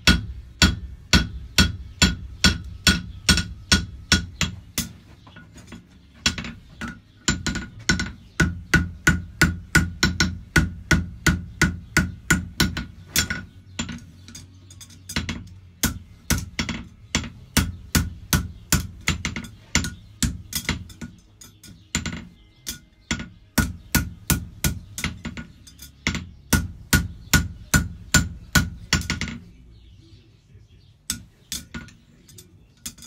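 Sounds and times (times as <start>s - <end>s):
hammer blows ringing on anvil: 0.0s - 5.1s, 6.2s - 29.5s, 31.1s - 33.0s.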